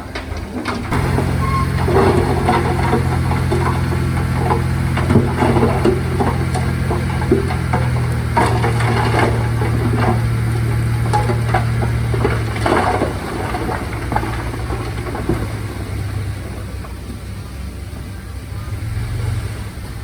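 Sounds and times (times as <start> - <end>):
metallic clanks and rattles: 0.1 - 16.2
heavy diesel engine running: 0.7 - 20.0.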